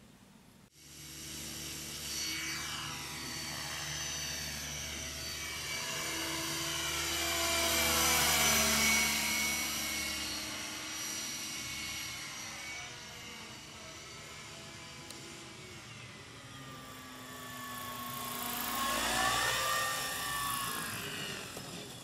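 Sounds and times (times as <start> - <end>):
rc helicopter motor and rotor whine: 0.7 - 22.0.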